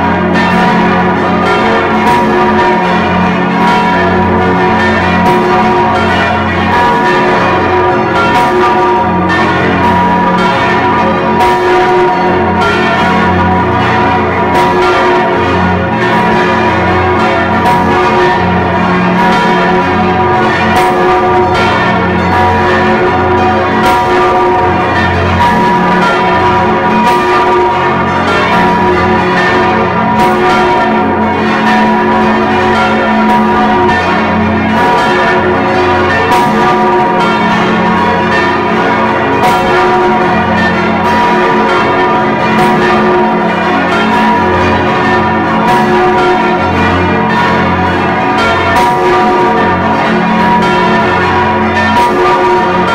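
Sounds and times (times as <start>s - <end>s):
church bell ringing: 0.0s - 52.9s.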